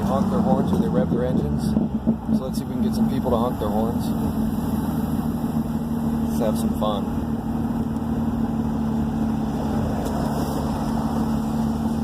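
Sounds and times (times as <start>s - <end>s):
car engine exhaust drone: 0.0s - 12.0s.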